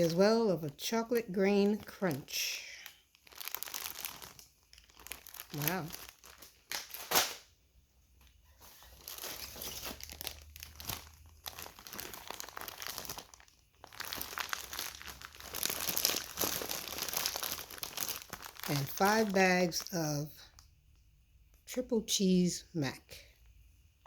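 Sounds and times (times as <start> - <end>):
food bags crinkling: 0.0 - 7.5, 8.2 - 20.6.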